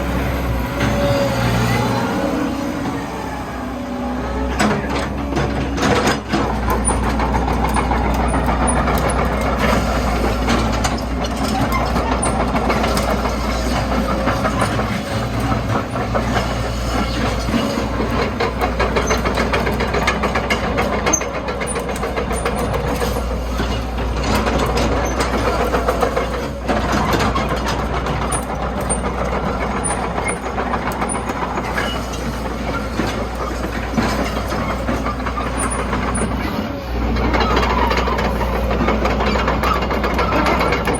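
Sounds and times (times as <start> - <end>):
diesel engine humming: 0.0 - 40.9.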